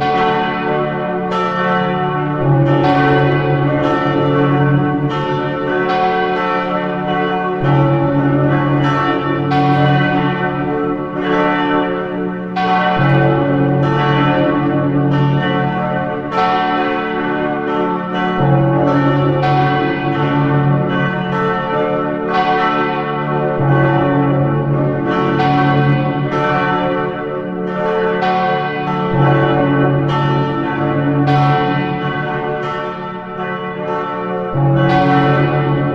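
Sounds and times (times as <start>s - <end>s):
church bells pealing: 0.0s - 35.9s.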